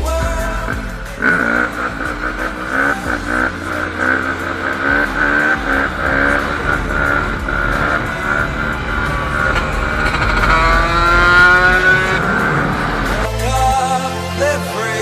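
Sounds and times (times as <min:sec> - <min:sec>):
small engine revving: 0:00.7 - 0:13.4.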